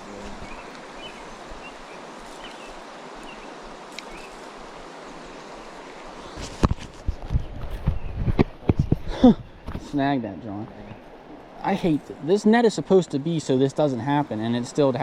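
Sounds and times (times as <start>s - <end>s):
creek water running: 0.0s - 15.0s.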